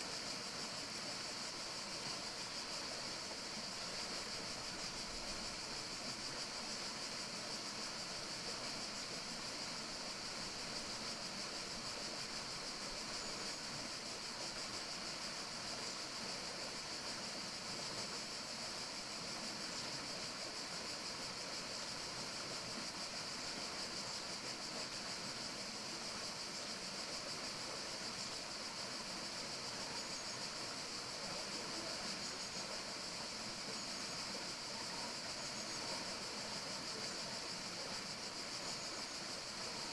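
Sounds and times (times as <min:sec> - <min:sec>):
steady forest hiss: 0:00.0 - 0:39.9.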